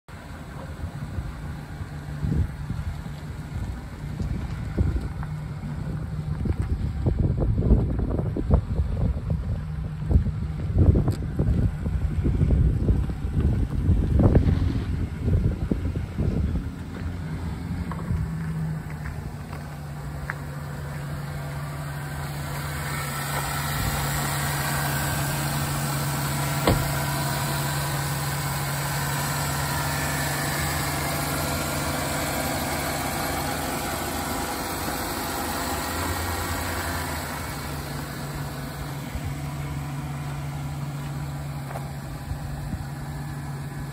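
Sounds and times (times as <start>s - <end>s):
truck engine idling: 0.1s - 43.9s.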